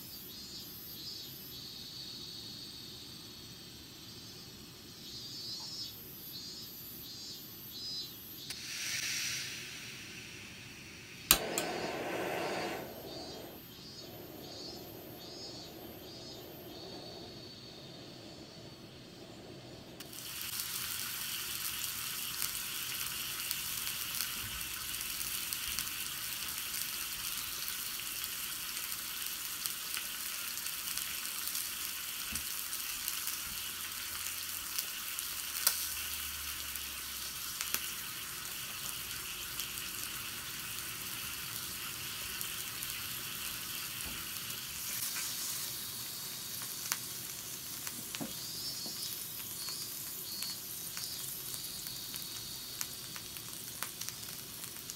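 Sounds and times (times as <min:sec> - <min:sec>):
meat sizzling in a skillet: 0:07.1 - 0:17.9, 0:20.0 - 0:54.9.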